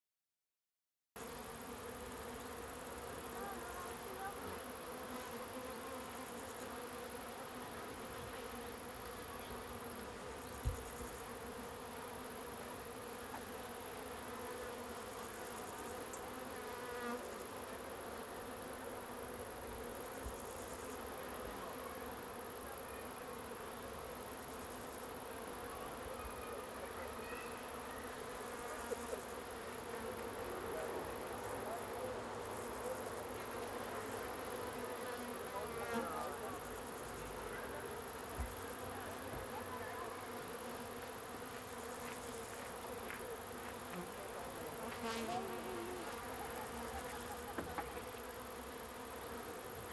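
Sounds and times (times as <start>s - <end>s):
bees and insects buzzing: 1.2s - 49.9s.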